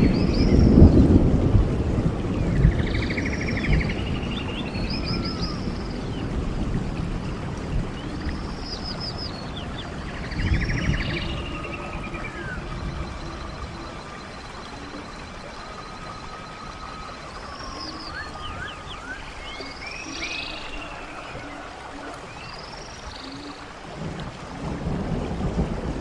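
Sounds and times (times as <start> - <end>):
songbirds singing: 0.0 - 1.2, 2.2 - 25.6
stream flowing: 0.0 - 26.0.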